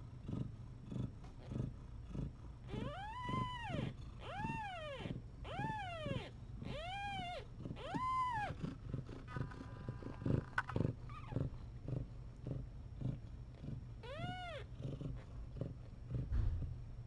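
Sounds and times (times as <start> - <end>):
cats purring: 0.0 - 17.0.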